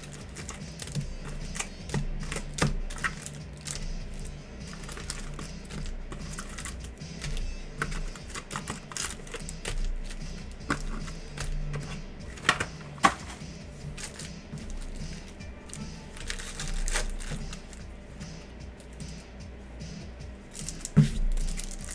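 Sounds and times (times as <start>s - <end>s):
trading cards clicking and snapping: 0.0s - 17.8s, 20.5s - 21.9s.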